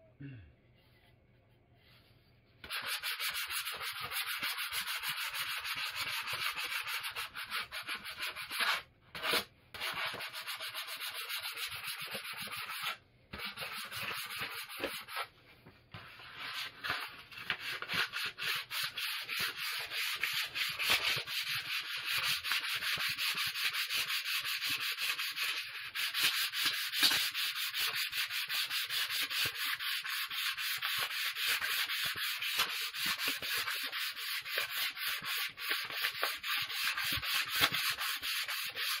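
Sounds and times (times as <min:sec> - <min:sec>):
sandpaper rubbing on wood: 0:02.6 - 0:15.3, 0:16.2 - 0:39.0.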